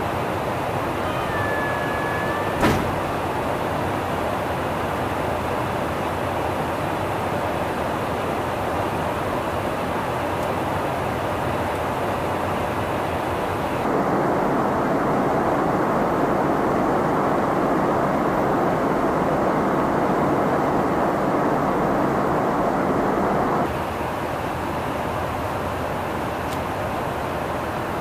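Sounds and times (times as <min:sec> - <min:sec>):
aircraft cabin engine roar: 0:00.0 - 0:28.0.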